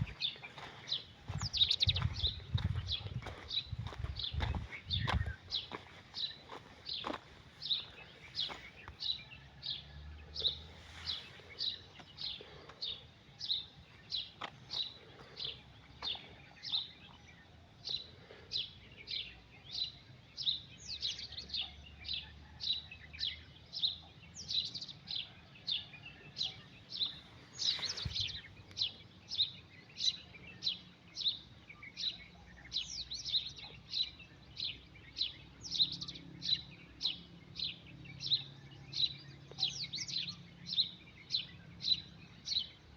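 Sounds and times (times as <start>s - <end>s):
other birds chirping: 0.0s - 22.2s, 23.8s - 42.9s.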